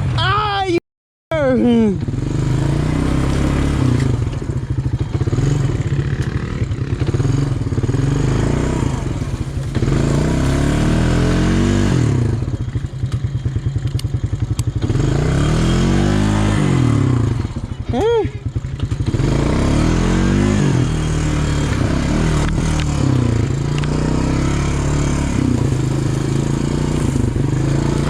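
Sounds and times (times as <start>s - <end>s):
quad bike engine revving: 1.4s - 28.0s.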